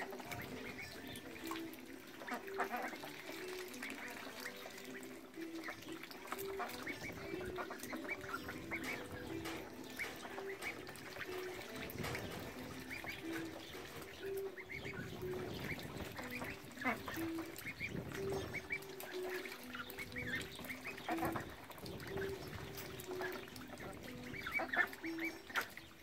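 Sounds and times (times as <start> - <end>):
ducks quacking: 0.0 - 26.0
ducks splashing in water: 0.0 - 26.0.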